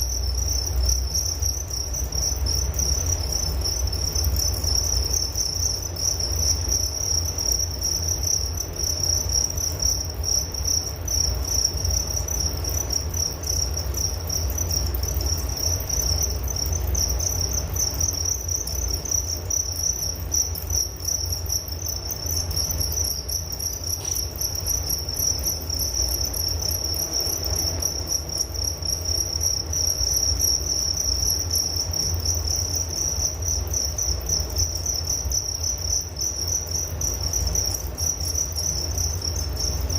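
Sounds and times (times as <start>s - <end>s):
crickets chirping: 0.0s - 39.9s
low steady rumble: 0.0s - 39.9s.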